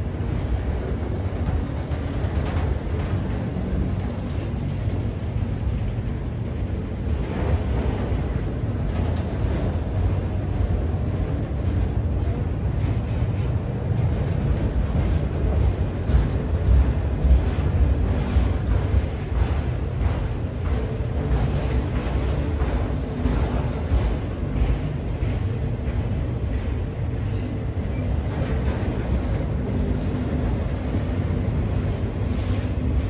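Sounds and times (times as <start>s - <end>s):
freight train rumbling past: 0.0s - 33.0s
train wheels clicking: 0.0s - 33.0s.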